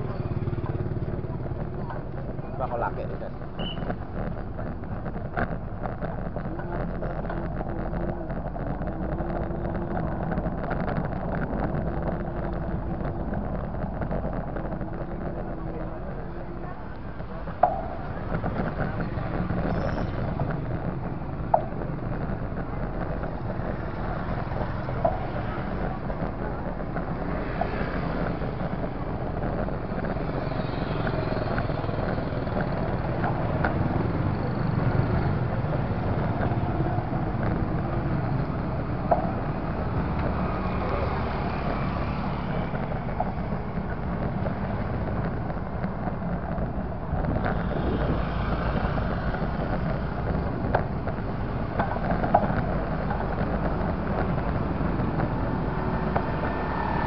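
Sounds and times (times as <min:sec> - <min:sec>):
motorcycle engine rumble: 0:00.0 - 0:57.0.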